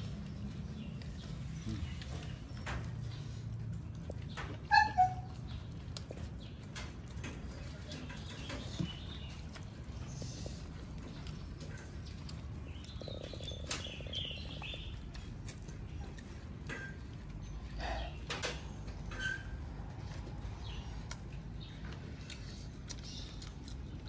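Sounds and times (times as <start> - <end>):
people chewing chicken bones: 0.0 - 24.0.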